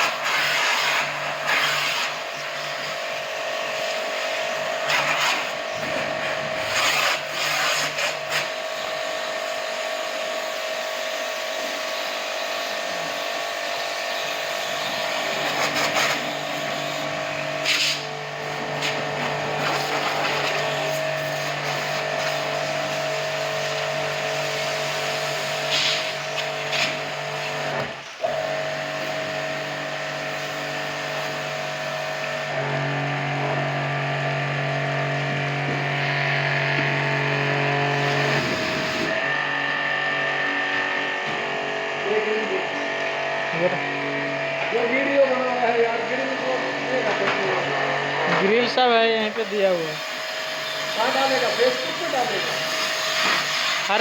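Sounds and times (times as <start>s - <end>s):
pump motor hum: 0.0s - 54.0s.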